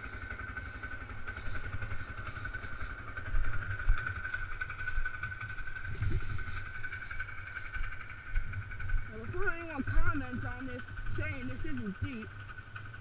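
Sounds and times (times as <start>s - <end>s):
atv engine rumbling: 0.0s - 13.0s.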